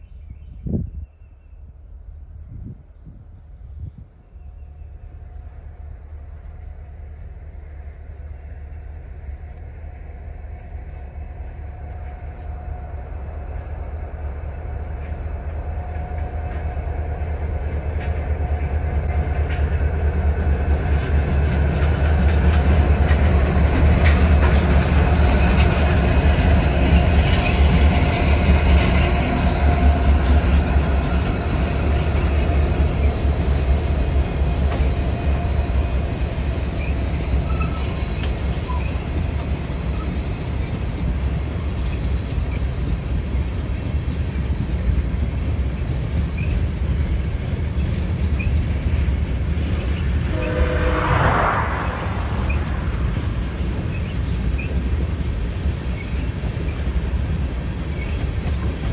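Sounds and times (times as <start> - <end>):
diesel locomotive rumble: 0.0 - 58.9
train wheels rolling on rails: 4.4 - 58.9.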